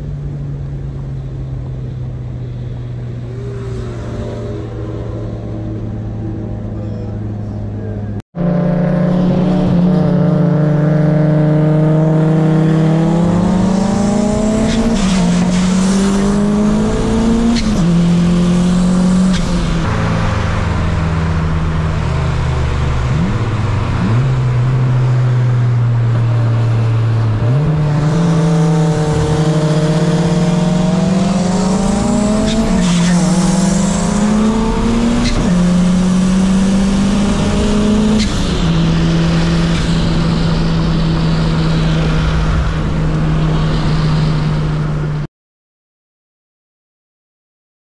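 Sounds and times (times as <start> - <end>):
car engine accelerating through gears: 0.6 - 45.3.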